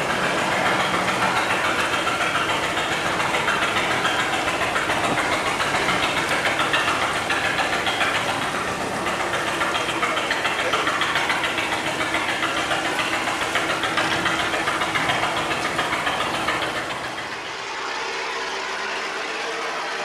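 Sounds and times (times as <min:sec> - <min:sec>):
boat engine knocking rapidly: 0:00.0 - 0:20.0.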